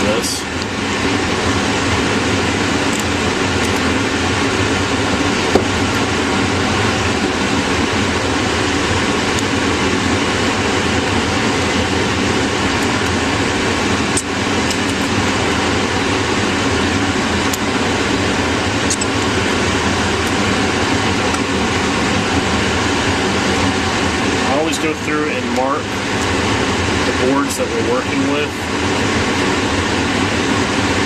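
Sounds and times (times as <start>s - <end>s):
fan noise with low hum: 0.0s - 31.0s.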